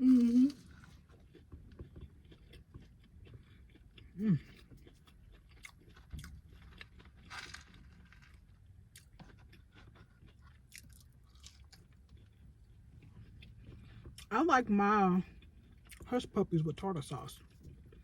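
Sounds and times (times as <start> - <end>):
person chewing fried food: 0.0 - 18.0.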